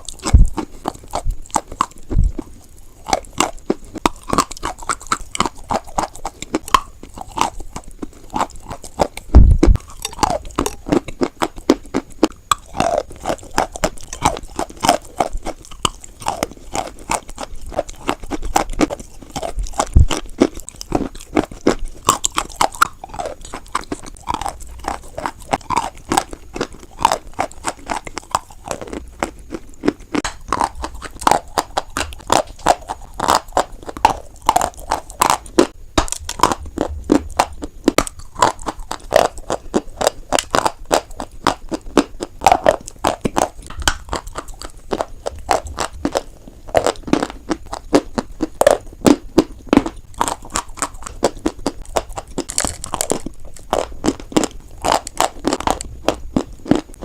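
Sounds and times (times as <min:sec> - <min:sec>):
chalk being crunched and chewed: 0:00.0 - 0:57.0.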